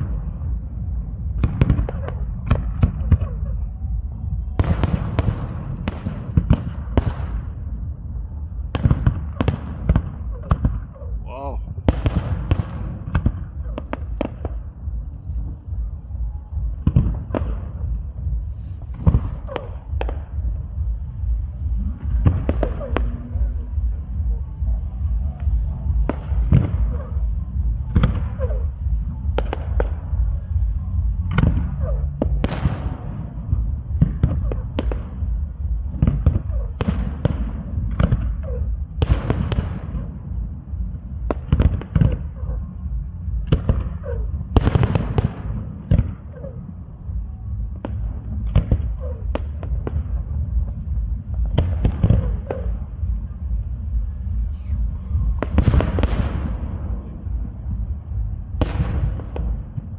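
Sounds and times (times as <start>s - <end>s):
low rumble: 0.0s - 59.9s
fireworks bangs: 1.2s - 7.9s, 8.7s - 42.8s, 43.4s - 59.9s.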